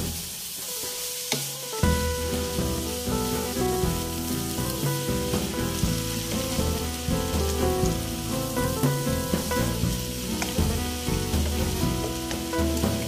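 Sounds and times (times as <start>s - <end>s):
vegetables sizzling in a wok: 0.0s - 13.0s
wooden spatula stir-frying: 0.0s - 13.0s
background music: 1.8s - 13.0s.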